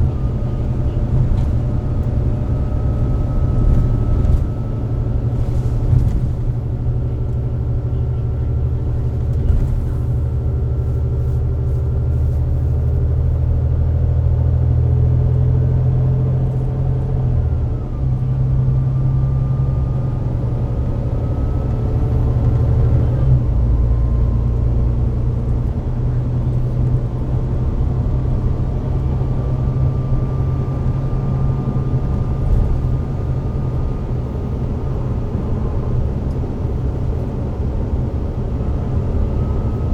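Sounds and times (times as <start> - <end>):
bus engine rumbling: 0.0 - 39.9.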